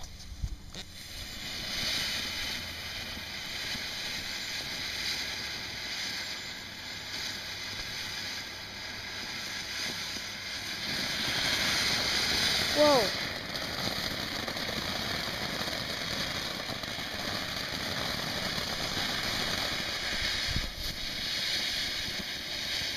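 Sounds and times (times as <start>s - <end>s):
ground firework hissing: 0.0s - 22.9s.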